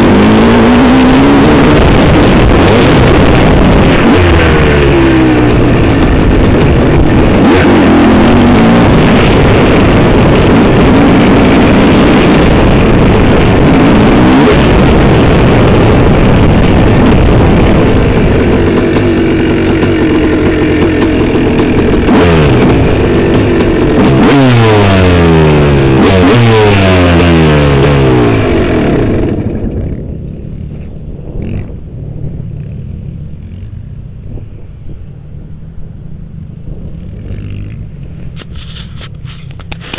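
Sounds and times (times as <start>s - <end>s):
dirt bike engine revving: 0.0s - 34.6s, 35.3s - 39.9s.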